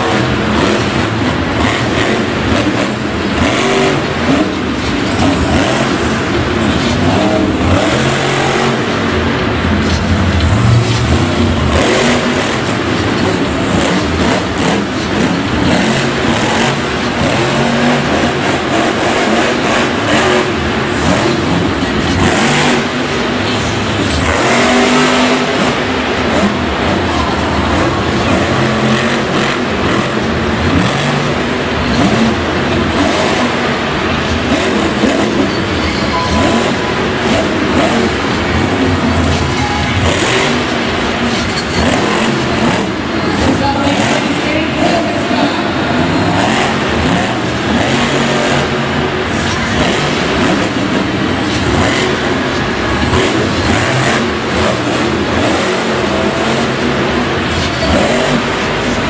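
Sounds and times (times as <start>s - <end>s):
truck engine revving hard: 0.0s - 59.0s.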